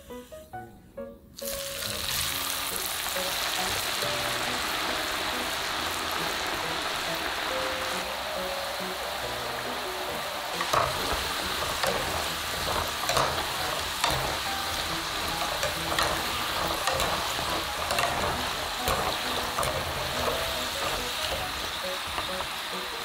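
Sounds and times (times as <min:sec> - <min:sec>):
oil popping and crackling: 0:01.4 - 0:23.0
potatoes sizzling in hot oil: 0:01.4 - 0:23.0.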